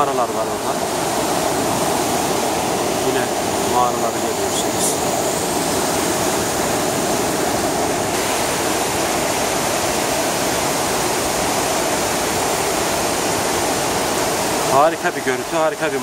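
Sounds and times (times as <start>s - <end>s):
rushing waterfall: 0.0s - 16.0s.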